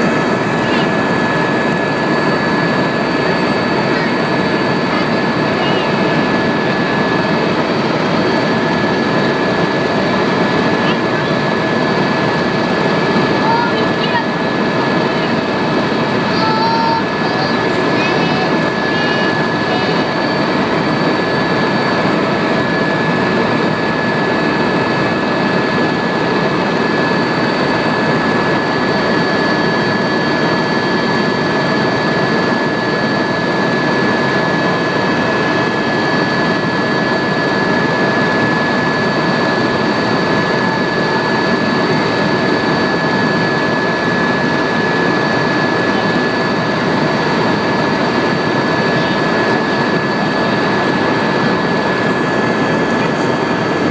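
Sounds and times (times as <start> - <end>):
helicopter engine and rotor: 0.0 - 53.9
high-pitched whine: 0.0 - 53.9.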